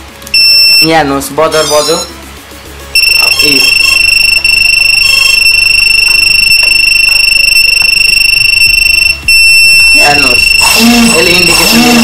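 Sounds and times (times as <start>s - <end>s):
high-pitched buzzer beep: 0.3s - 1.0s, 3.0s - 12.0s.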